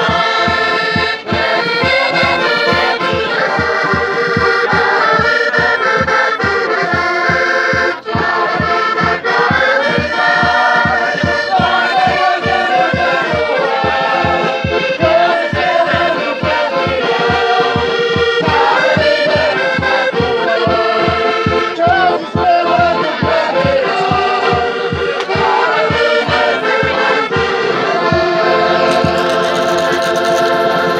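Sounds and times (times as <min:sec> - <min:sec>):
men and women singing together: 0:00.0 - 0:06.6, 0:07.3 - 0:30.9
steady bass drum beat: 0:00.0 - 0:29.5
accordion playing: 0:00.0 - 0:30.9.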